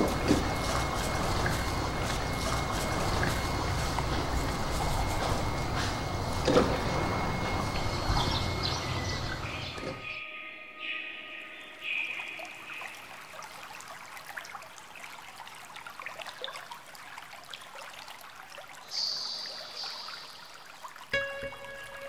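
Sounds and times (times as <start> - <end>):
water trickling and dripping: 0.0 - 10.1, 11.6 - 22.0.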